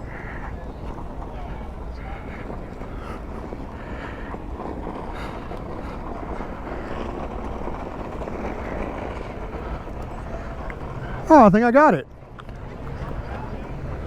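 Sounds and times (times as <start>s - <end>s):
electric board rumbling: 0.0s - 14.0s.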